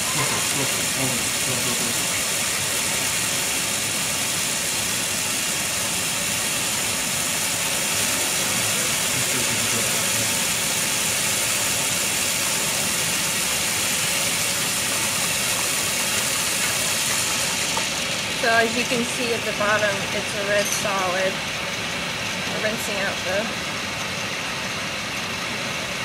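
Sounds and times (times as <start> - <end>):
vacuum line hissing: 0.0 - 24.5.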